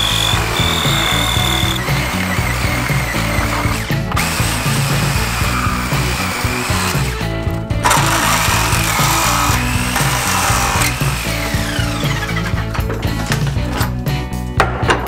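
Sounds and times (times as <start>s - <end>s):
power saw cutting wood: 0.0s - 12.8s
background music: 0.0s - 15.0s.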